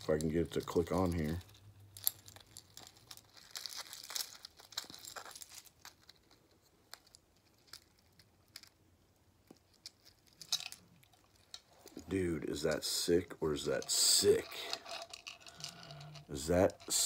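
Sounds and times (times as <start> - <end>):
plastic rustling: 0.0 - 8.8, 9.6 - 17.0.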